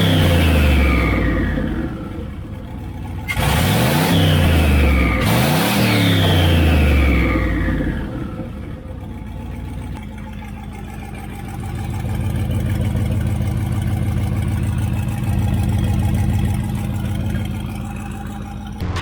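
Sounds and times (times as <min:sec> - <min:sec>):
truck engine idling: 0:00.0 - 0:05.3, 0:06.1 - 0:19.0.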